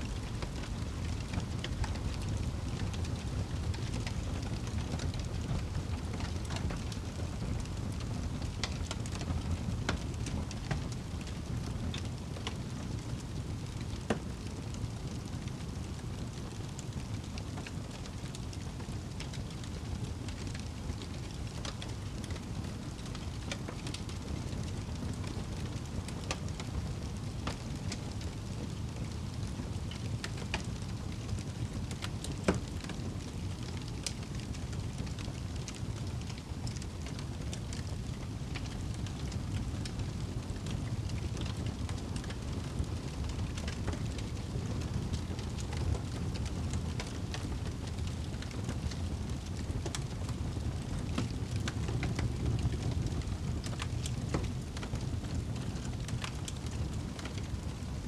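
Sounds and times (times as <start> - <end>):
campfire crackling and popping: 0.0 - 58.0
low fire rumble: 0.0 - 58.0.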